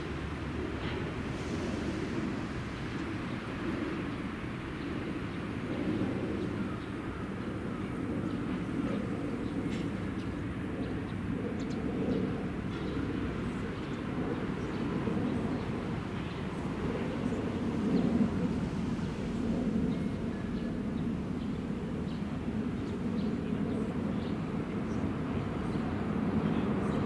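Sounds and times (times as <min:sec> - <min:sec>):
rail traffic rumble: 0:00.0 - 0:27.0.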